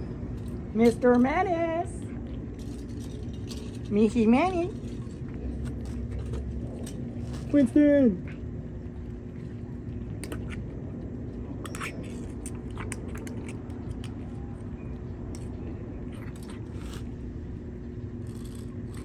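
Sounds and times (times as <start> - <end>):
steady low hum: 0.0 - 19.0
cat chewing wet food: 1.9 - 3.9, 4.6 - 7.5, 8.2 - 19.0.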